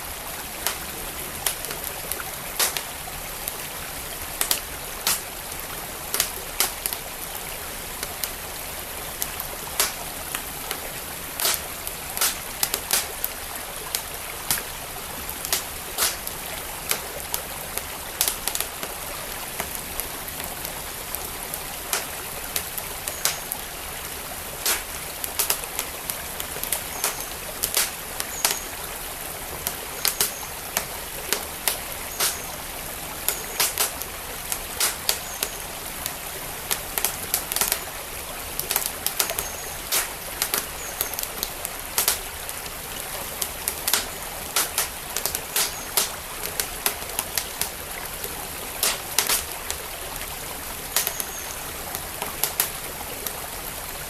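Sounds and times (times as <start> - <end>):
wood fire crackling: 0.0 - 53.4
flowing stream: 0.0 - 54.0.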